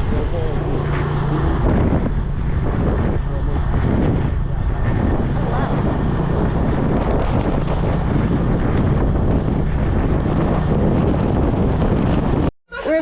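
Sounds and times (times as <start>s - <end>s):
moving vehicle running noise: 0.0s - 12.5s
wind buffeting microphone: 0.0s - 13.0s.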